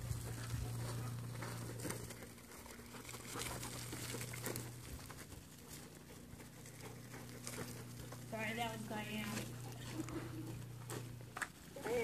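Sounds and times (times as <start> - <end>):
hooves and paws on dirt: 0.0 - 12.0
steady low hum: 0.0 - 12.0.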